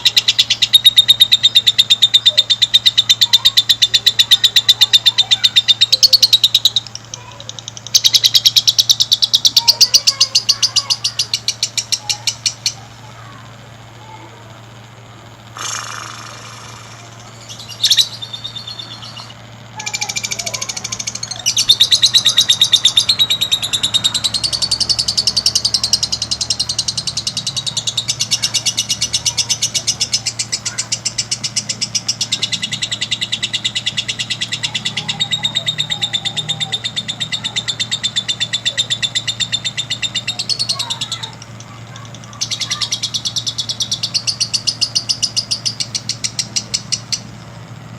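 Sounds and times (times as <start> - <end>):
bird call: 0.0 - 12.9, 15.6 - 47.4
lovebird chattering trill: 0.0 - 47.8
steady low hum: 0.0 - 47.9.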